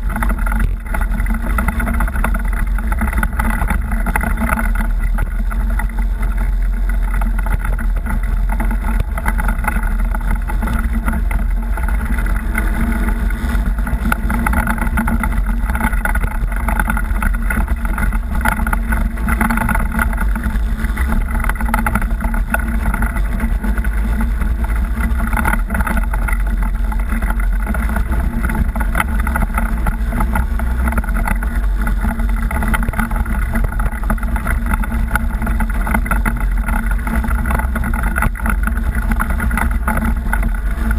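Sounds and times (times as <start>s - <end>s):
off-road vehicle engine rumble: 0.0s - 40.9s.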